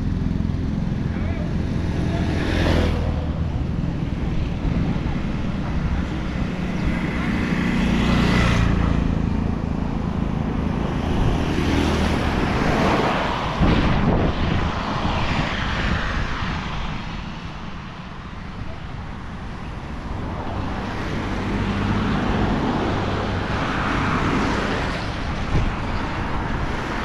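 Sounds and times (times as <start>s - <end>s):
vehicles passing close by: 0.0s - 27.0s.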